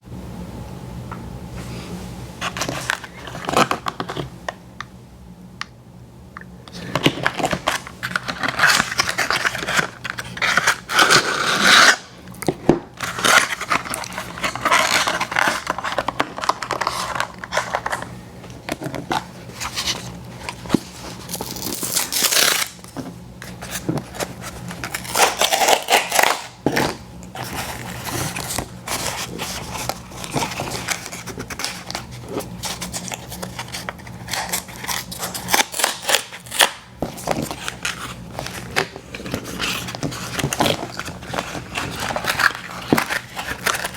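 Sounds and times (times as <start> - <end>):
paper packaging tearing and crinkling: 6.8 - 12.1, 13.0 - 18.1, 19.1 - 43.9.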